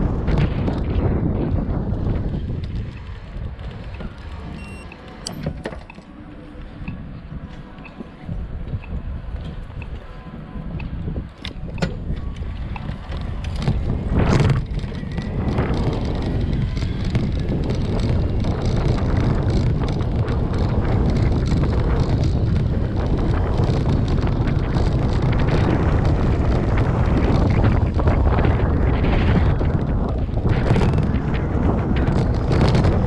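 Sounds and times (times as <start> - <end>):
bicycle tyres rumbling on pavement: 0.0 - 33.0
wind buffeting microphone: 0.0 - 33.0.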